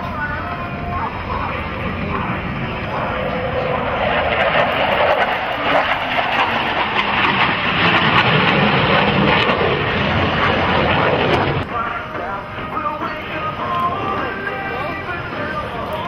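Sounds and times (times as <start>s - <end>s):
jet flying past roaring: 0.0s - 16.0s.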